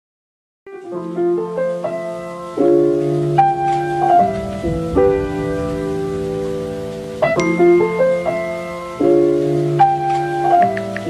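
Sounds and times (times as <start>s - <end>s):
soft piano chords: 0.7s - 11.0s.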